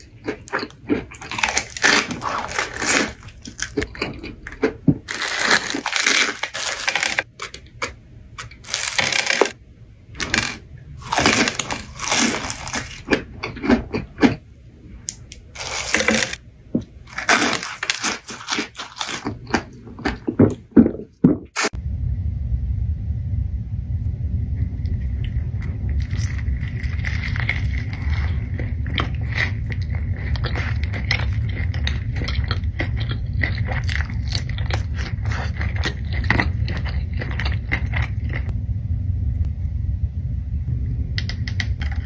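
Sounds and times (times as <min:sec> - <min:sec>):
crunchy food being chewed: 0:00.0 - 0:09.6, 0:10.2 - 0:14.4, 0:15.1 - 0:21.8, 0:25.2 - 0:38.5.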